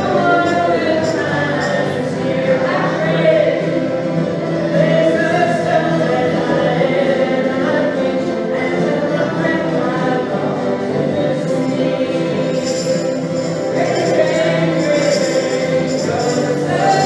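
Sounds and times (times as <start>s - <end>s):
group singing: 0.0s - 17.0s
strummed acoustic guitars: 0.0s - 17.0s.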